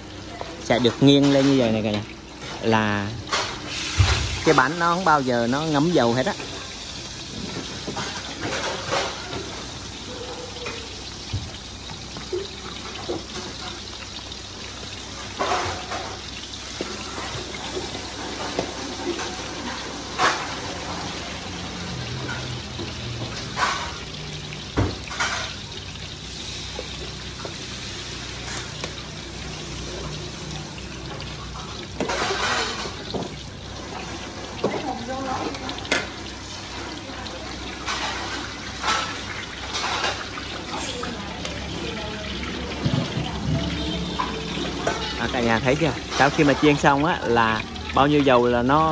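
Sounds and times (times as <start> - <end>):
oil sizzling in woks: 0.0 - 48.9.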